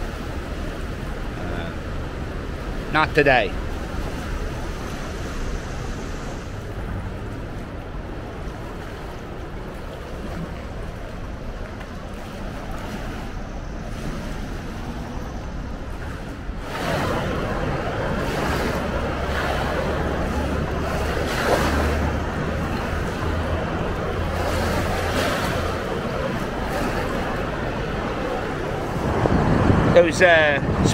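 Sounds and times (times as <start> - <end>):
floodwater rushing: 0.0 - 30.9
low rumble: 3.5 - 30.0.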